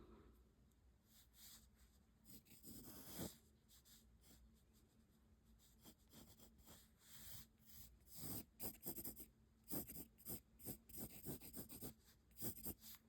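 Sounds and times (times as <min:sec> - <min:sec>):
pencil scratching on paper: 0:01.1 - 0:04.4, 0:05.6 - 0:13.0.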